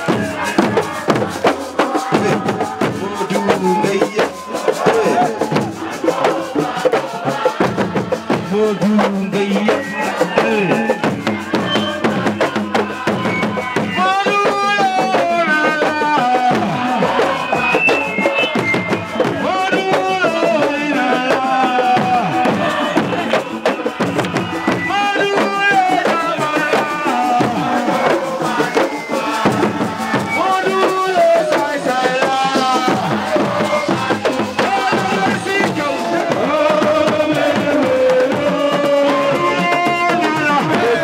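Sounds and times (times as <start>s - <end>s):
fast drumming: 0.0s - 41.0s
people singing: 0.0s - 41.0s.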